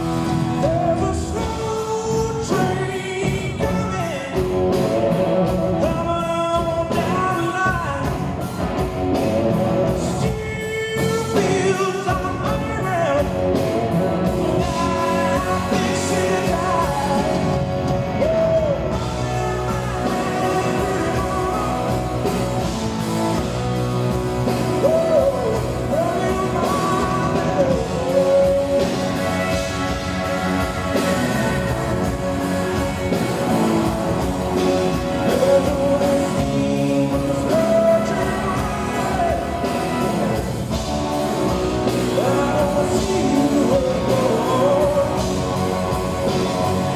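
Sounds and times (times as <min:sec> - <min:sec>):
man singing with vibrato: 0:00.0 - 0:08.5, 0:09.7 - 0:46.9
bass guitar: 0:00.0 - 0:46.9
drums: 0:00.0 - 0:46.9
electric guitar: 0:00.0 - 0:46.9.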